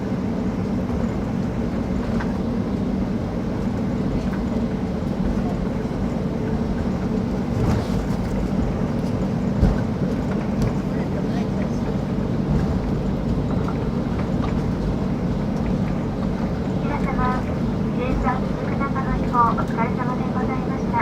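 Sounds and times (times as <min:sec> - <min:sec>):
aircraft engines humming: 0:00.0 - 0:21.0.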